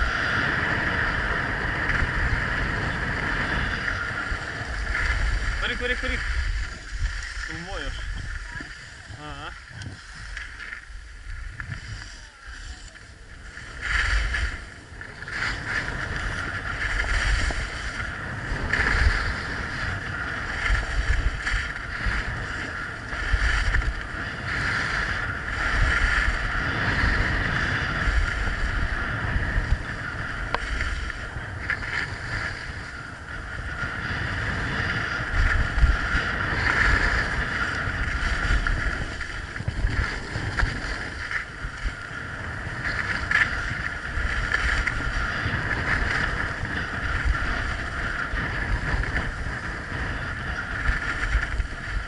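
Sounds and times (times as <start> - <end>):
skis scraping over snow: 0.0 - 52.0
wind on microphone: 0.0 - 52.0.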